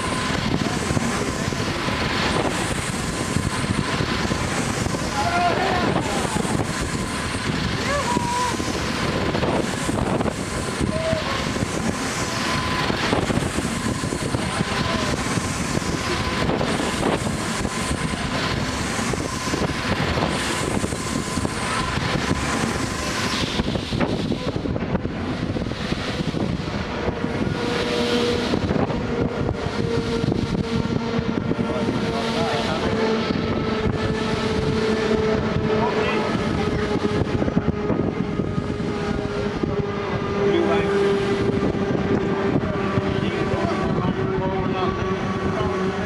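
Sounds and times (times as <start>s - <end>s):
ride mechanical rumble: 0.0s - 46.0s.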